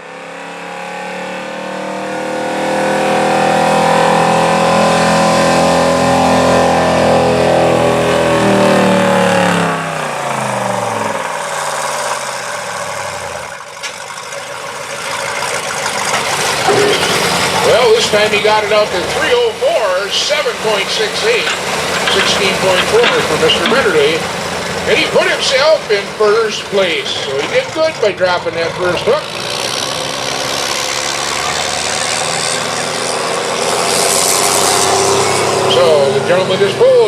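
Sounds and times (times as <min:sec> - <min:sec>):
truck engine revving under load: 0:00.0 - 0:13.6, 0:15.5 - 0:37.0.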